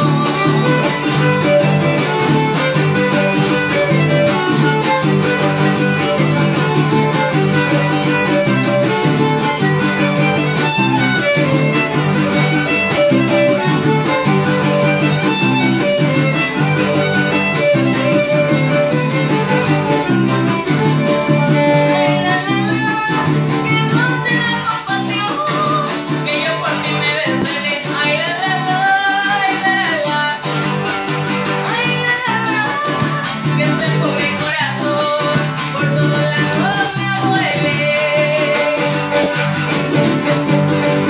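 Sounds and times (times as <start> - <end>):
strummed guitars: 0.0 - 41.0
violin melody: 0.0 - 41.0.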